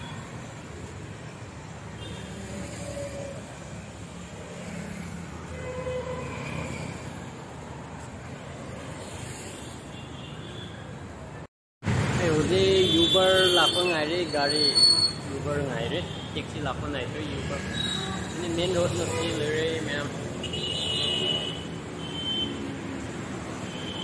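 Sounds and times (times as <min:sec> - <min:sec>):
passing cars and motorcycles: 0:00.0 - 0:10.0, 0:11.2 - 0:24.0.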